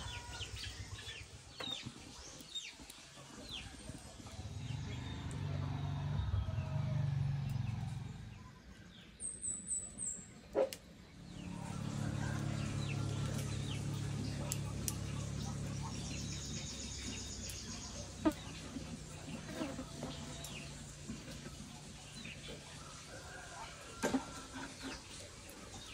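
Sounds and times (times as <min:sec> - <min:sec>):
birds chirping: 0:00.0 - 0:06.7, 0:07.4 - 0:25.9.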